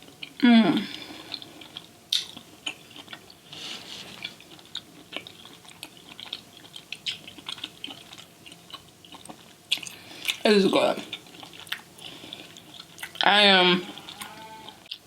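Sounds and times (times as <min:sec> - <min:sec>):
chewing with wet clicks: 0:00.0 - 0:03.4, 0:04.2 - 0:10.4, 0:11.0 - 0:15.0.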